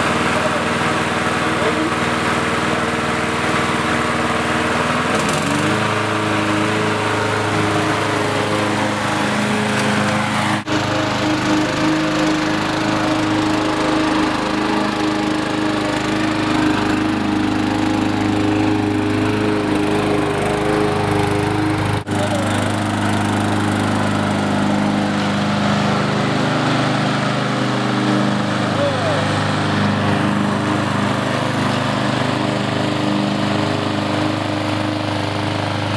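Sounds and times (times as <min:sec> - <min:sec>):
lawn mower engine running: 0:00.0 - 0:35.9.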